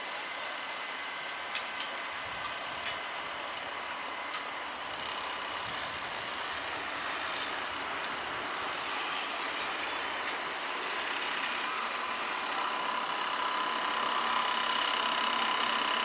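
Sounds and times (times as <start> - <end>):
thin steady whine: 0.0 - 16.0
train running: 0.0 - 16.0.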